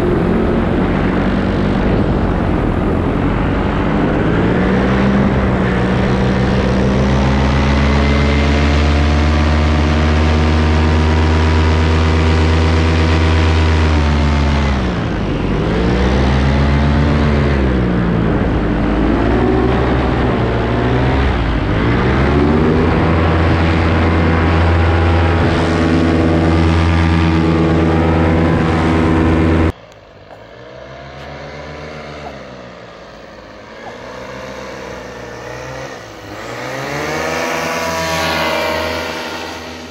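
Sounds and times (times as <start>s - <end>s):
paramotor engine and propeller: 0.0s - 39.9s
paramotor flying by: 0.0s - 39.9s.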